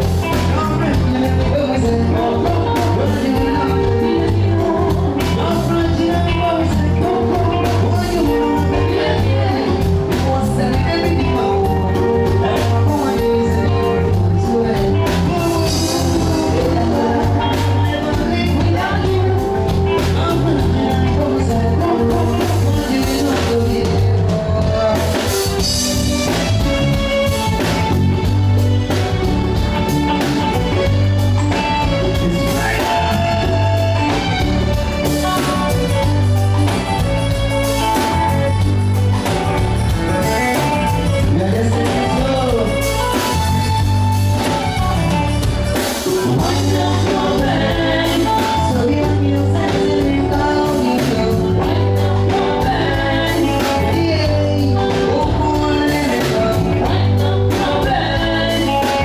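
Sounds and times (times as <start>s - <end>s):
live band with singing: 0.0s - 59.0s.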